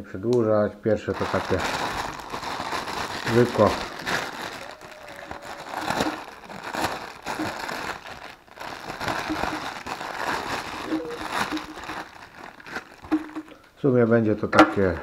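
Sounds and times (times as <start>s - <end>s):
plastic bag crinkling: 1.0s - 13.7s.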